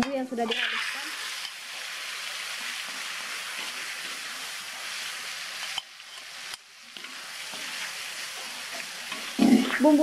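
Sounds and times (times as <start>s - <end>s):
oil sizzling in a wok: 0.0s - 10.0s.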